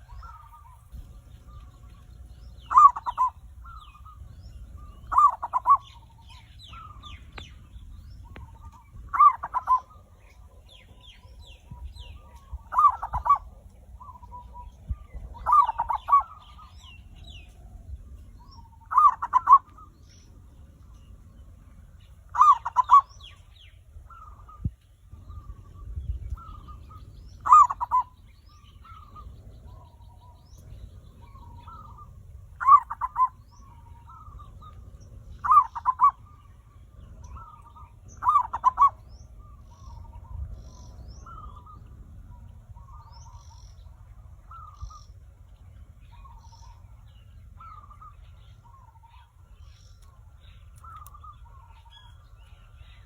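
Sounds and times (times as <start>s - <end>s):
doves cooing: 0.0s - 53.0s.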